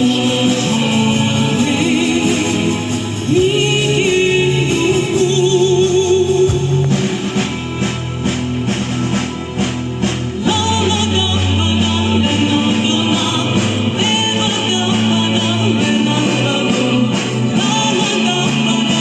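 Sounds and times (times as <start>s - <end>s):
person singing with vibrato: 0.0s - 8.3s, 10.3s - 19.0s
band and orchestral music: 0.0s - 19.0s
drum beats: 0.0s - 19.0s.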